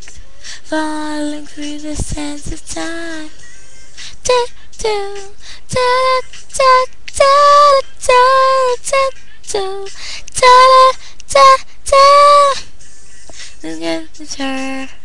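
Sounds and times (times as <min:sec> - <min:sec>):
girl singing wordless notes: 0:00.0 - 0:15.0
quiet backing music: 0:00.0 - 0:15.0.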